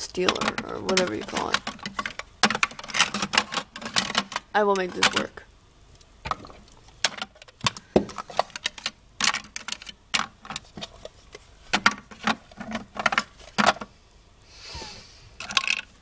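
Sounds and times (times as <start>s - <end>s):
plastic toys clicking and knocking: 0.0s - 5.4s, 6.3s - 13.9s, 15.4s - 16.0s.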